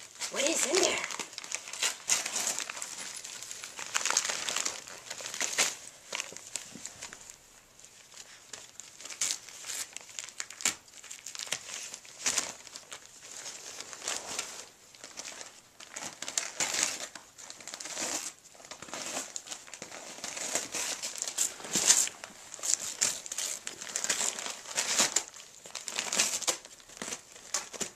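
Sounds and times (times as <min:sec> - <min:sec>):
wrapping paper crinkling and tearing: 0:00.0 - 0:27.9.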